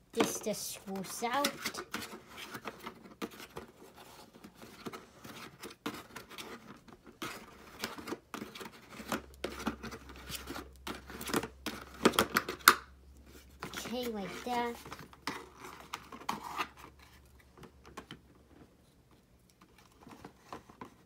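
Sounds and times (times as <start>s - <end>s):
cardboard and plastic scraping: 0.2s - 12.7s, 13.3s - 18.9s, 19.6s - 21.0s.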